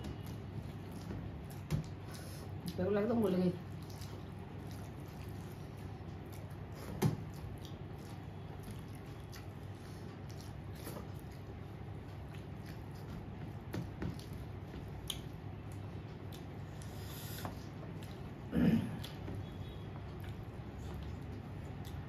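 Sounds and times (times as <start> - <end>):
steady low hum: 0.0 - 22.0
wet squishing of food by hand: 0.0 - 22.0
chewing: 0.1 - 2.8, 3.6 - 22.0.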